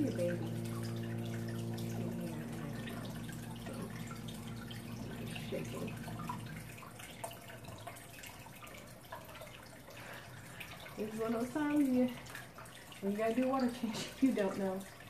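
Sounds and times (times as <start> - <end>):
low steady hum: 0.0 - 15.0
water trickling and dripping: 0.0 - 15.0.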